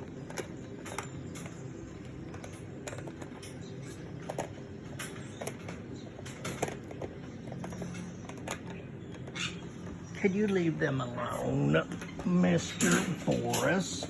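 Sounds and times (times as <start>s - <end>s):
beaks and feet clicking on toys: 0.0s - 14.0s.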